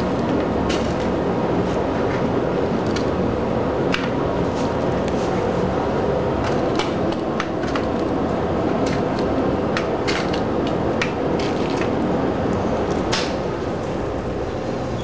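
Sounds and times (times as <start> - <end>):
low ventilation rumble: 0.0 - 15.0.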